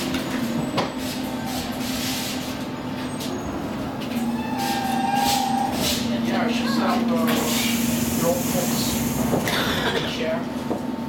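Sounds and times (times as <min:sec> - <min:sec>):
train electrical hum: 0:00.0 - 0:11.0.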